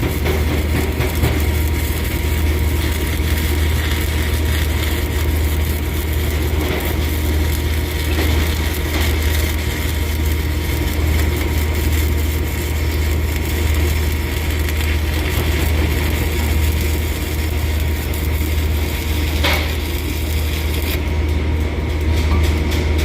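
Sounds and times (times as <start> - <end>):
constant low hum: 0.0 - 23.0
welding arc crackling: 0.0 - 23.0.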